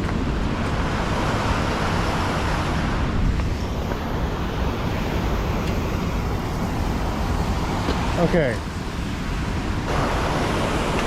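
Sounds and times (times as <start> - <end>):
water rushing from dam chute: 0.2 - 11.0.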